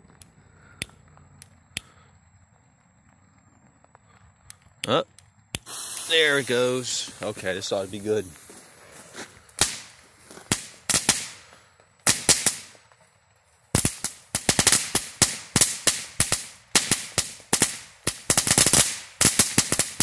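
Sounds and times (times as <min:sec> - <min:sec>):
firework crackling: 0:00.0 - 0:20.0.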